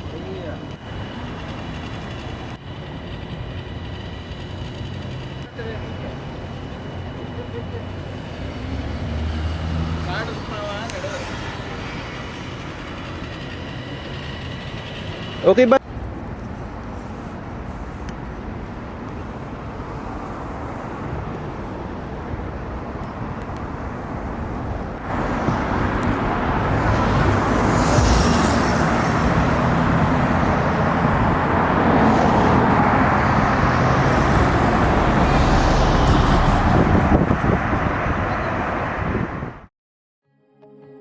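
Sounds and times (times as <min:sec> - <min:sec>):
passing cars: 0:00.0 - 0:39.7.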